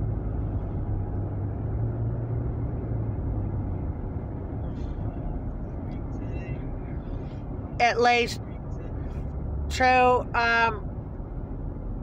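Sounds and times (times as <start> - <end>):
car road and engine rumble: 0.0 - 12.0
low steady hum: 0.0 - 12.0.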